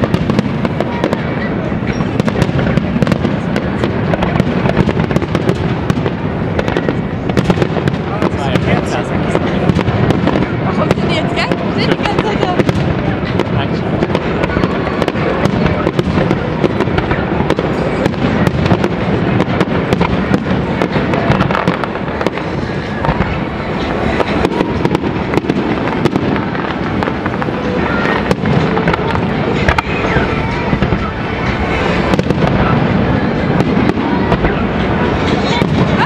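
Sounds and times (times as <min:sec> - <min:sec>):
fireworks bursts and crackles: 0:00.0 - 0:36.0.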